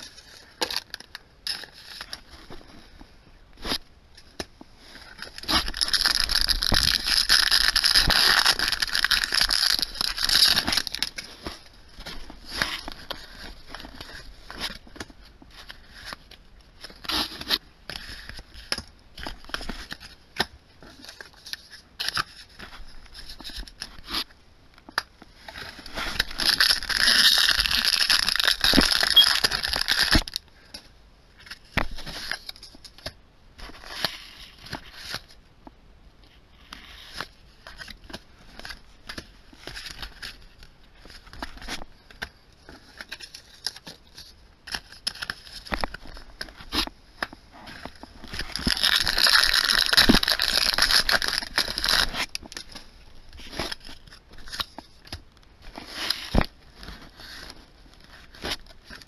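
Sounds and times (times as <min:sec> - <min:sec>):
foil wrapper crinkling and tearing: 0:00.0 - 0:02.3, 0:05.0 - 0:24.3, 0:25.0 - 0:30.6, 0:37.1 - 0:59.0.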